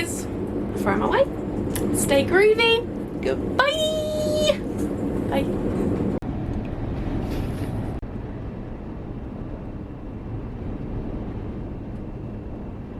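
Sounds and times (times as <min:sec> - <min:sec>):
low rumbling noise: 0:00.0 - 0:12.9.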